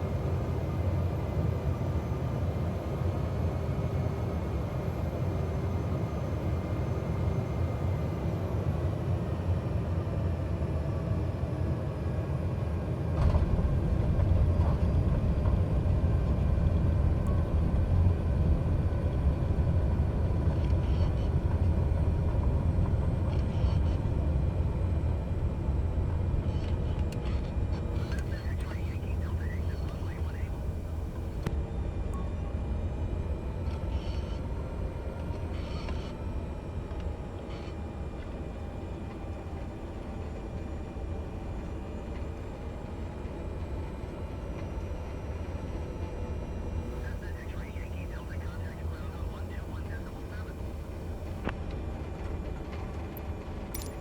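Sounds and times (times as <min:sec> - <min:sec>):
turboprop engine whine: 0:00.0 - 0:54.0.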